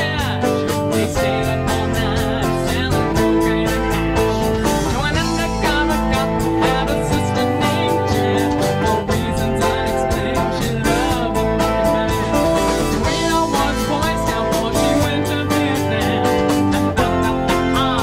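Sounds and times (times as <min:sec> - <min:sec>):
drum kit steady beat: 0:00.0 - 0:18.0
electric guitars playing: 0:00.0 - 0:18.0.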